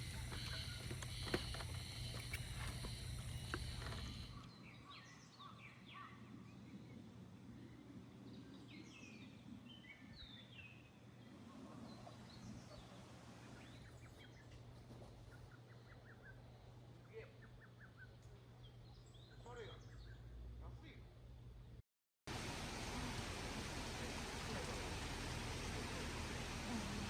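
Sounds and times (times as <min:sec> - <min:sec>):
faint birds chirping: 0:00.0 - 0:27.0
quiet background hum: 0:00.0 - 0:27.0.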